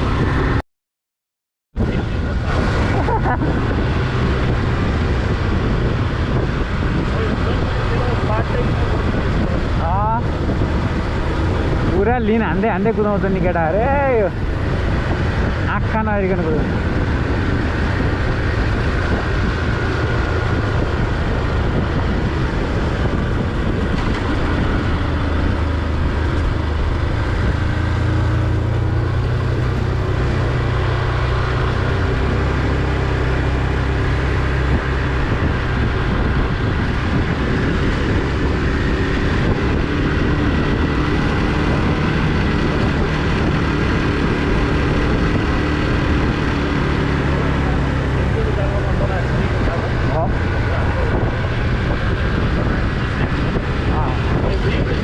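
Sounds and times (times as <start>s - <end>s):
road noise: 0.0s - 0.6s, 1.7s - 55.0s
wind rush on microphone: 0.0s - 0.6s, 1.8s - 55.0s
motorcycle engine running: 1.8s - 55.0s.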